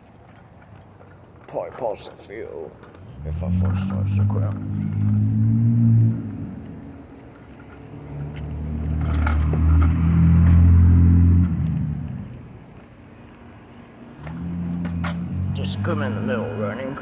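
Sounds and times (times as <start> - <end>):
motor vehicle passing: 2.5 - 17.0.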